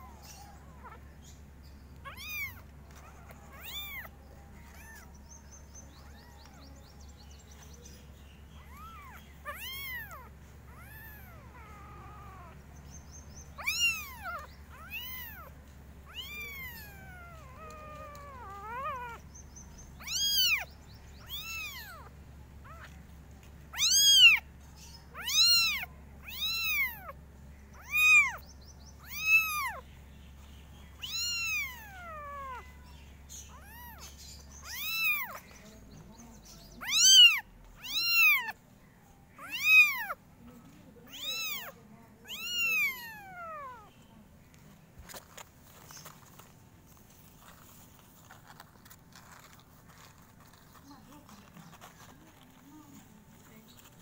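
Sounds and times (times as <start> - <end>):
kittens mewing: 0.0 - 44.0.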